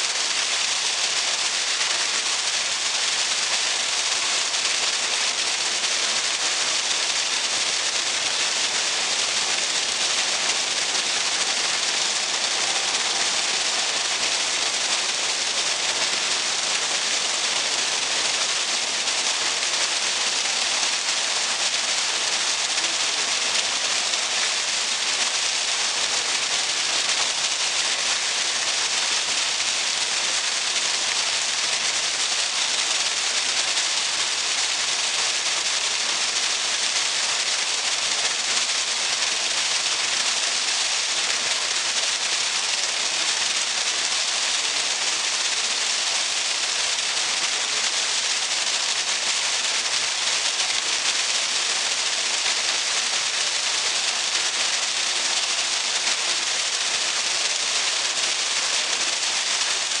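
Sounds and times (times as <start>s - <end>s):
small waterfall splashing: 0.0s - 60.0s.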